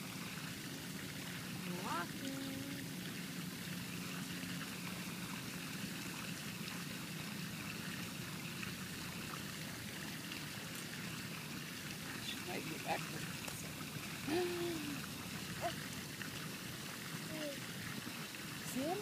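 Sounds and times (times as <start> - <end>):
hot tub jets bubbling water: 0.0 - 19.0.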